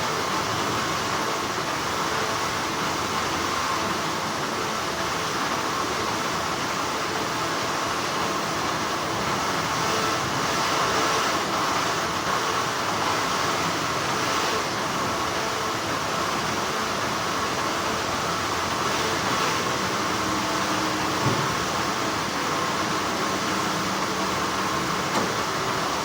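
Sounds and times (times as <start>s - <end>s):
factory machinery hum: 0.0s - 26.0s.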